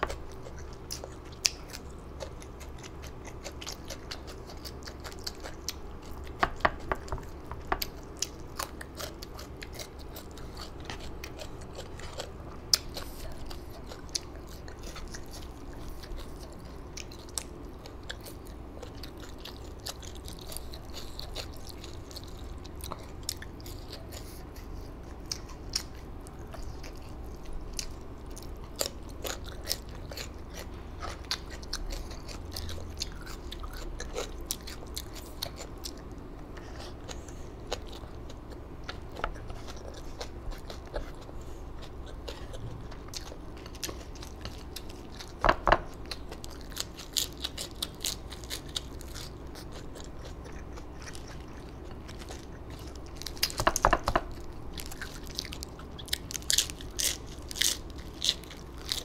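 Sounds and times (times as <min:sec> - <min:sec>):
person chewing crunchy food: 0:00.0 - 0:59.0
steady low hum: 0:00.0 - 0:59.0.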